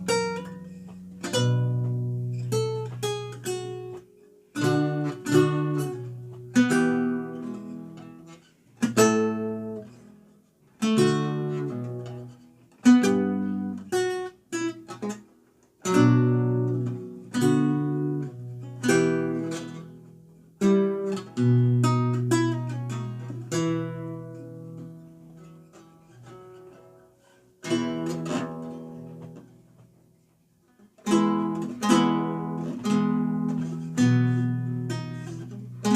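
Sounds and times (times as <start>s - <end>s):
lute plucked chords and notes: 0.0s - 30.0s, 30.7s - 35.9s.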